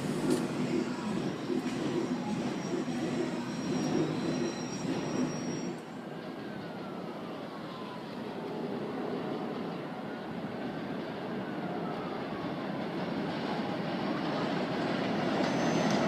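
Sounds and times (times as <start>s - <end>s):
subway train running with squeal: 0.0s - 16.0s.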